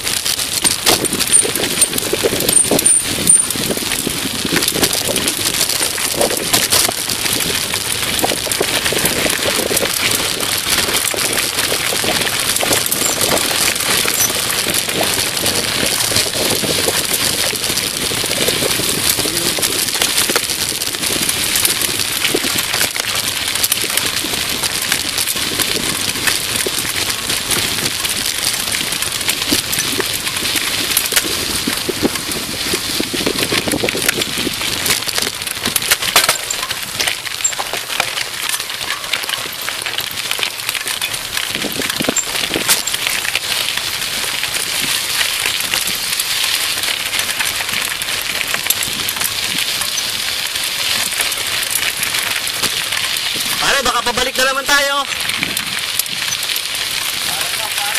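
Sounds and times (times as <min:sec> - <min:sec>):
bicycle tyres on gravel: 0:00.0 - 0:57.9.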